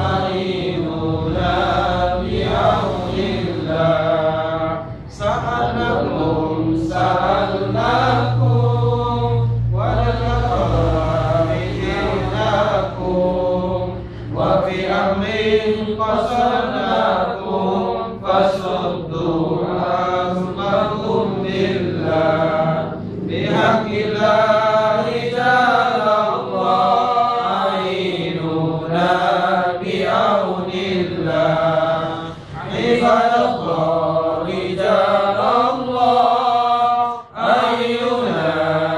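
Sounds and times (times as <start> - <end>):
men chanting together: 0.0 - 38.9.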